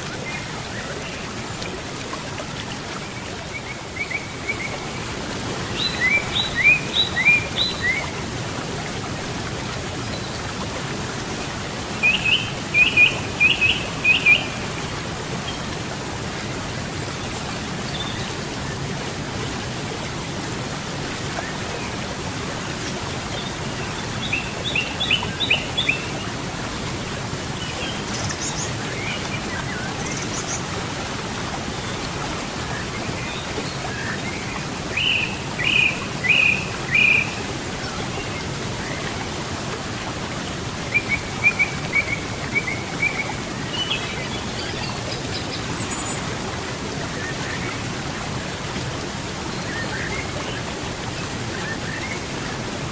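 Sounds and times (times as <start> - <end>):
flowing river water: 0.0 - 52.9.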